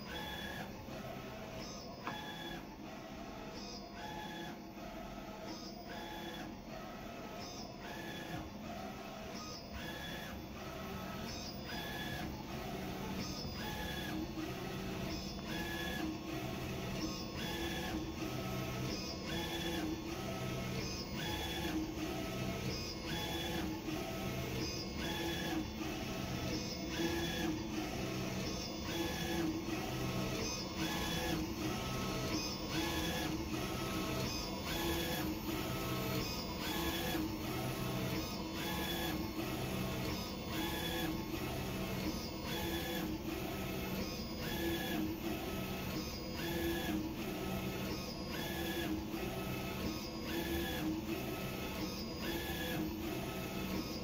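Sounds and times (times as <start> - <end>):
printer carriage whirring and ticking: 0.0 - 54.0.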